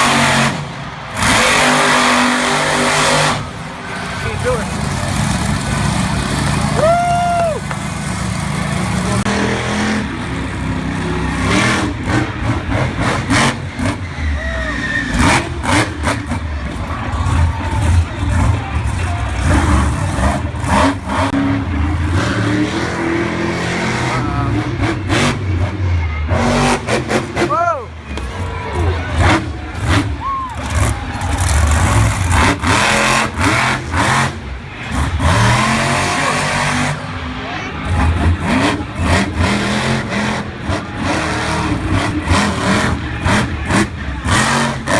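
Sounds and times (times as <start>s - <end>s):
truck engine revving hard: 0.0s - 44.9s.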